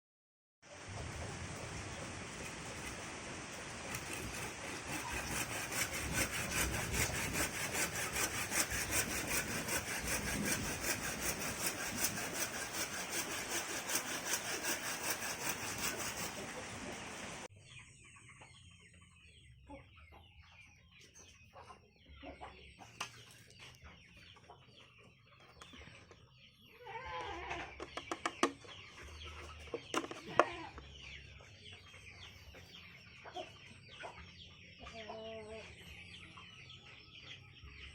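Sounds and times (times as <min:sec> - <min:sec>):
chickens clucking: 0:00.7 - 0:37.9.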